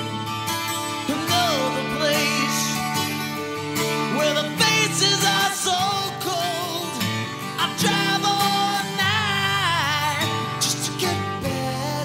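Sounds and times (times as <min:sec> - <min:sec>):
song with singing over guitar: 0:00.0 - 0:12.0.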